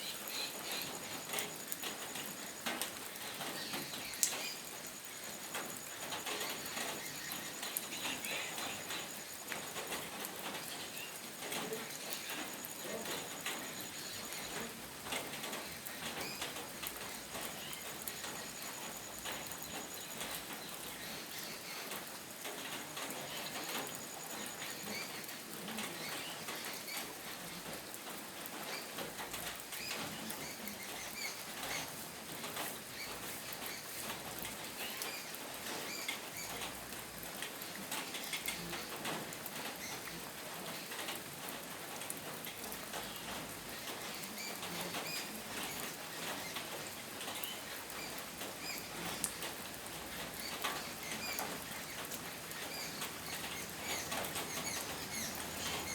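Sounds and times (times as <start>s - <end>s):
rain pattering: 0.0s - 55.9s.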